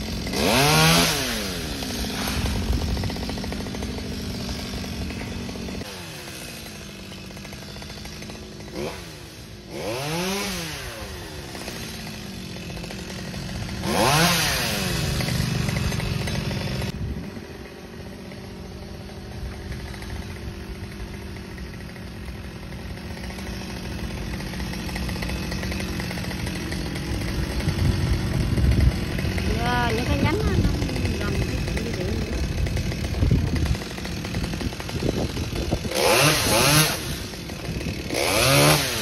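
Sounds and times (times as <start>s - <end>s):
small petrol engines running: 0.0s - 39.0s.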